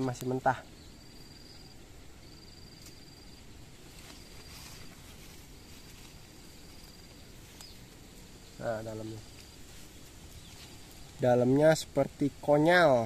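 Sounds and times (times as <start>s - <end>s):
faint background hiss: 0.0s - 13.0s
insect trilling: 0.0s - 13.0s.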